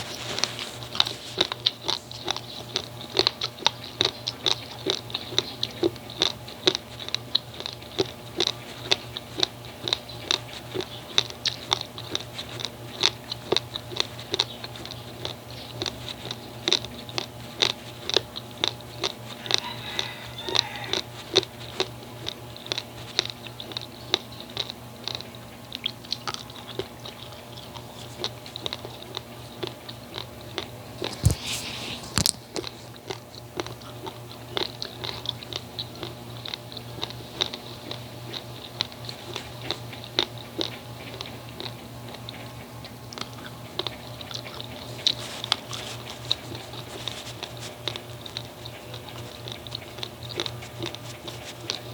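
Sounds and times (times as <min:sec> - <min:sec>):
rice grains crunched between teeth: 0:00.0 - 0:42.2.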